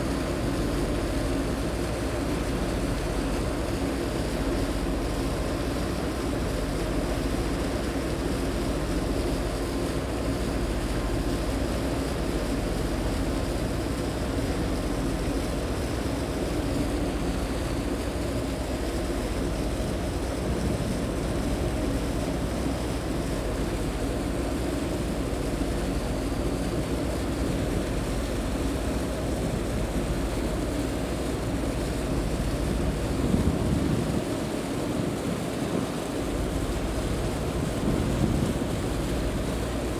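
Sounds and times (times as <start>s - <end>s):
boat engine drone: 0.0s - 39.9s
wind and water rushing: 0.0s - 39.9s.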